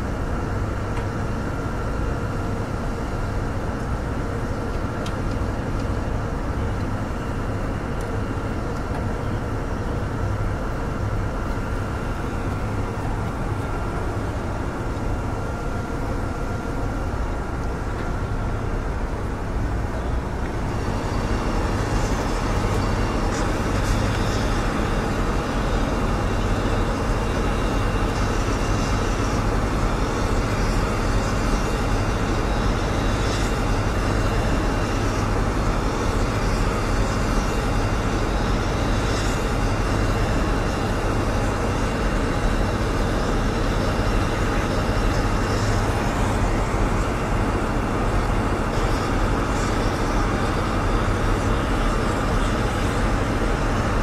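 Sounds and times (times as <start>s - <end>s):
engine drone: 0.0s - 54.0s
faint high whine: 0.0s - 54.0s.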